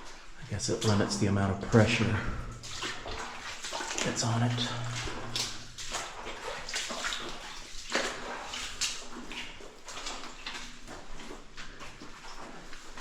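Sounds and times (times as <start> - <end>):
footsteps splashing through shallow water: 0.0 - 13.0.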